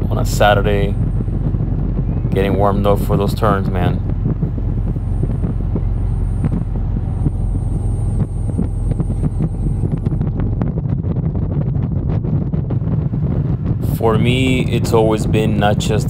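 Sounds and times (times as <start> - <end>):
motorcycle engine running: 0.0 - 16.0
short pops or buffets: 0.0 - 16.0
wind rushing over microphone: 0.0 - 16.0.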